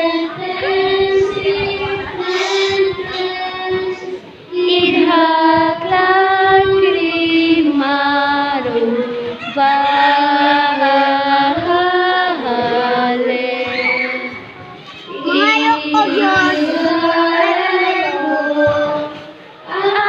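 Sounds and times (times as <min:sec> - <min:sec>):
children singing in unison: 0:00.0 - 0:20.0.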